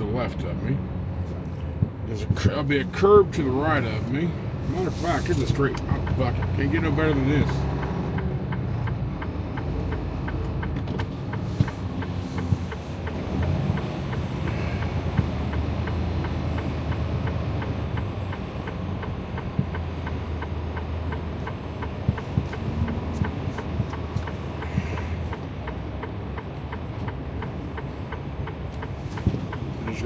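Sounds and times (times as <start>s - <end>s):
diesel truck engine running: 1.0s - 30.0s
turn signal flasher ticking: 1.4s - 30.0s.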